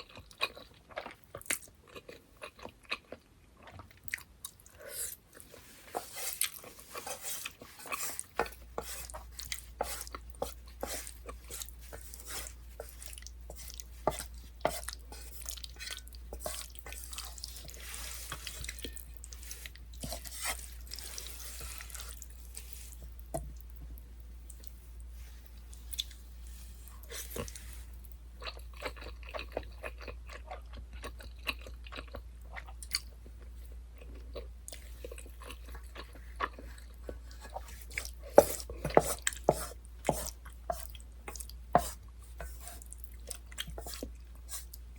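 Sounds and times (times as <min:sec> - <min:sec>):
wet chewing of noodles: 0:00.0 - 0:23.8, 0:24.4 - 0:44.9.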